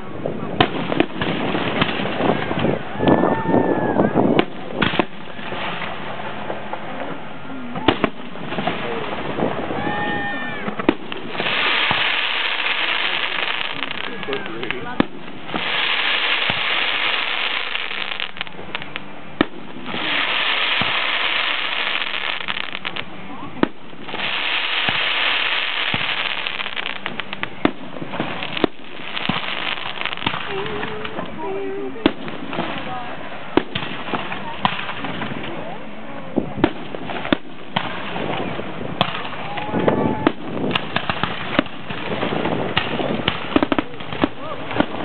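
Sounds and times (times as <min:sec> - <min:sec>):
dense steady hiss: 0:00.0 - 0:45.0
fireworks bursting with sharp bangs: 0:00.0 - 0:45.0.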